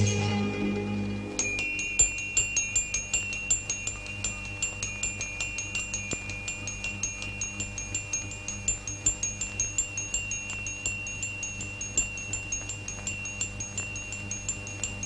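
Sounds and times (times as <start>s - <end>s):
held high ringing tone: 0.0s - 15.0s
small bell-like chimes: 1.2s - 15.0s.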